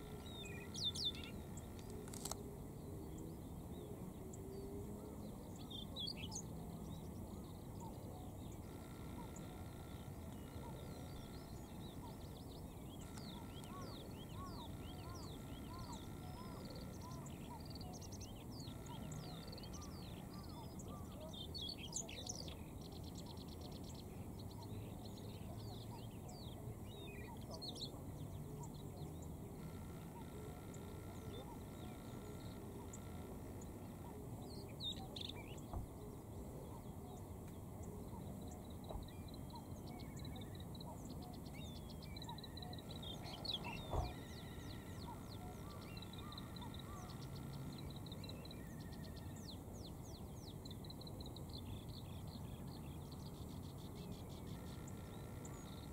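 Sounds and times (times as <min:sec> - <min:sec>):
bird singing warbles and trills: 0:00.0 - 0:55.9
low background noise: 0:00.0 - 0:55.9.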